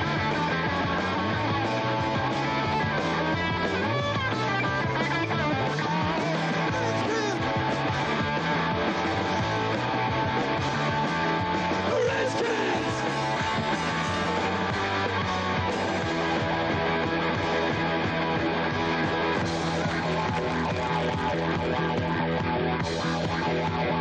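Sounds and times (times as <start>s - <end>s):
rock music with electric guitars: 0.0s - 24.0s.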